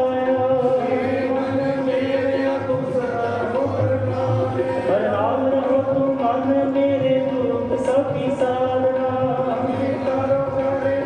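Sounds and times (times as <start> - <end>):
harmonium holding notes: 0.0 - 11.0
man singing: 0.0 - 11.0.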